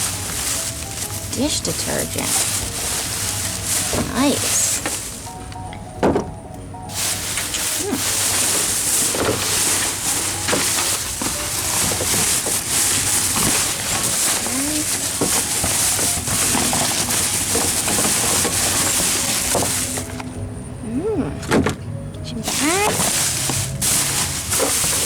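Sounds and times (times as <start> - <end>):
plastic bags rustling and crinkling: 0.0 - 20.5, 21.4 - 25.0.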